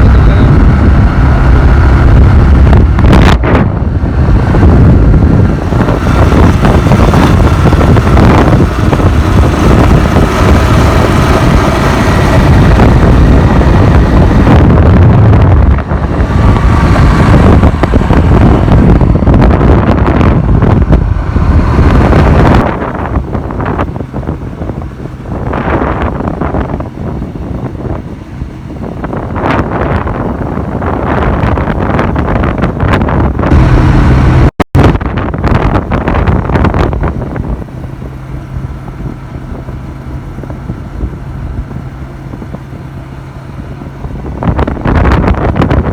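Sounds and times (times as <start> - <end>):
motorcycle engine: 0.0 - 45.9
wind buffeting microphone: 0.0 - 45.9.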